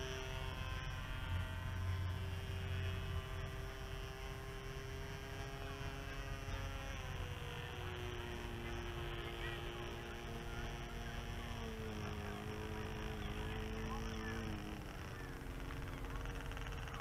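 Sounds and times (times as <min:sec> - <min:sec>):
low hum: 0:00.0 - 0:17.0
model airplane engine drone: 0:00.0 - 0:17.0.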